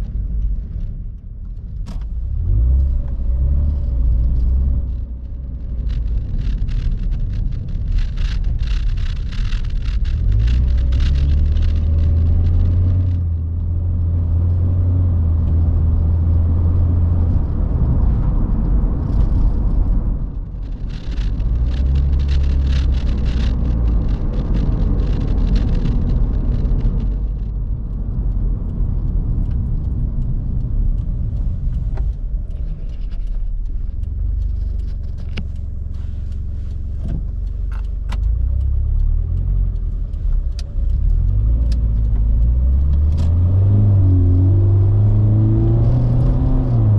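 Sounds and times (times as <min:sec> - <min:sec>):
car engine low rumble: 0:00.0 - 0:46.9.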